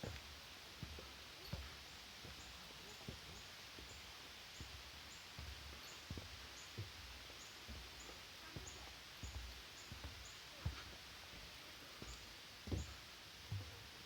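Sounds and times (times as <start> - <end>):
faint steady hiss: 0.0 - 14.0
footsteps dull thuds: 0.0 - 14.0.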